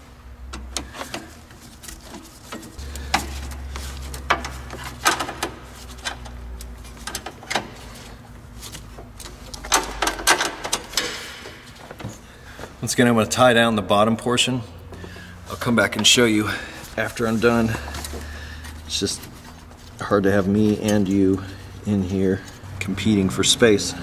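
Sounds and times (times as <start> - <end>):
hands working wiring and connectors: 0.0 - 12.9, 14.9 - 23.8.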